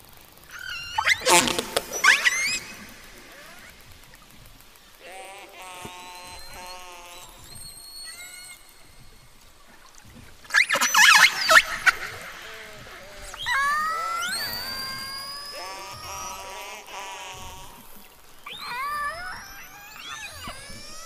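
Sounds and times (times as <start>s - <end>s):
orcas calling underwater: 0.5s - 4.4s, 5.0s - 21.0s.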